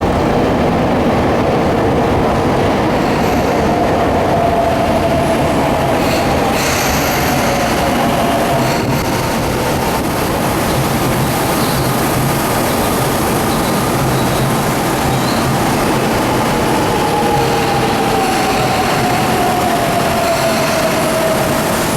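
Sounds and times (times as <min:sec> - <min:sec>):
electric train pulling in: 0:00.0 - 0:21.9.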